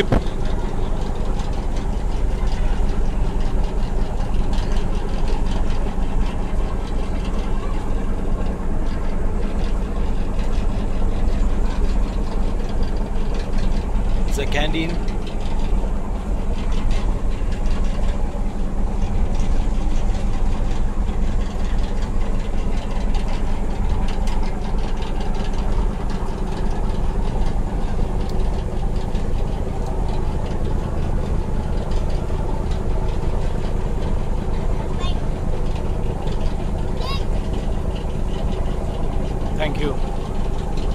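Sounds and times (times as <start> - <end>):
ship engine droning: 0.0 - 40.9.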